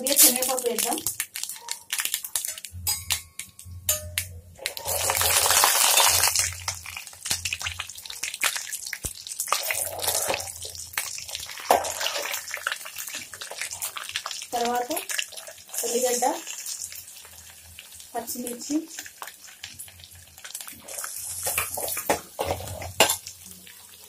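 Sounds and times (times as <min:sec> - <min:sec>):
seeds sizzling in hot oil: 0:00.0 - 0:24.0
ladle stirring in a pan: 0:02.3 - 0:18.0, 0:18.9 - 0:24.0.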